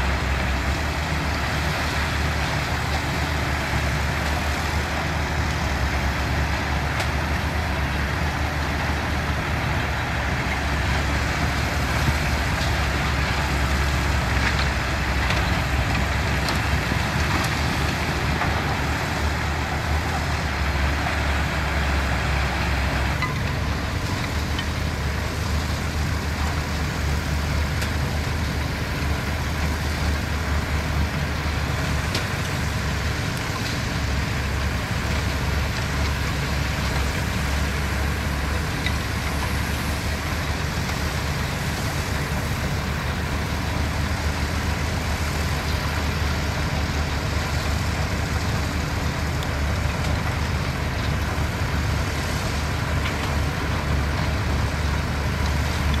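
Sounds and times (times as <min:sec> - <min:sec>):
heavy machinery engines droning: 0:00.0 - 0:56.0.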